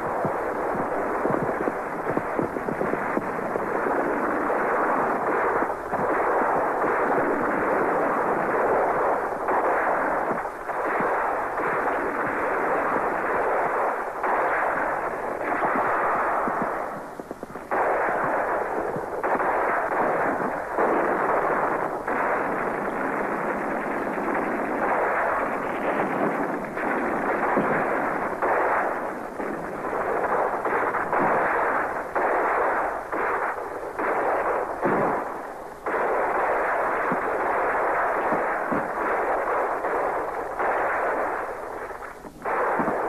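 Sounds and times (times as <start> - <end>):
explosions: 0.0 - 43.0
muffled gunfire: 0.0 - 43.0.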